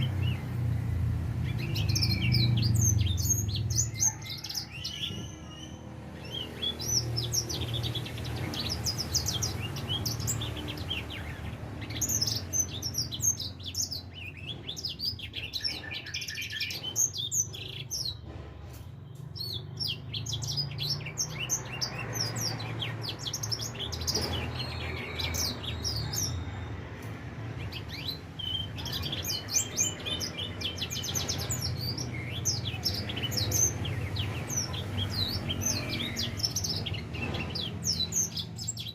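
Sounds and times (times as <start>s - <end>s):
finch twittering song: 0.0s - 38.9s.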